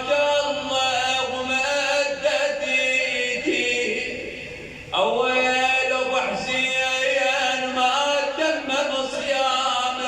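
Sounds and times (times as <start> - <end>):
man chanting a lament: 0.0 - 10.0.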